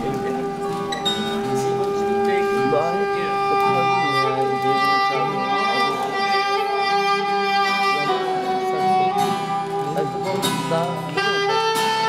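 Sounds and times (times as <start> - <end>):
soprano saxophone melody: 0.0 - 12.0
wavering accompaniment: 0.0 - 12.0.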